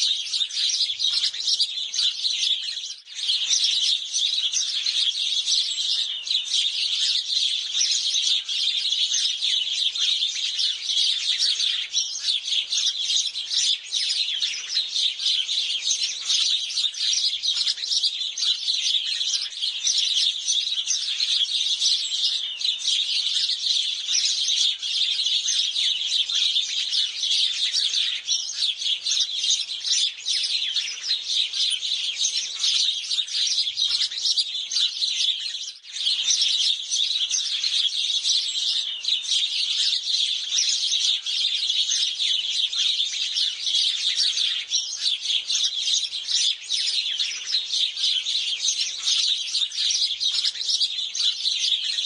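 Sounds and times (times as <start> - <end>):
sparrows chirping: 0.0 - 52.0.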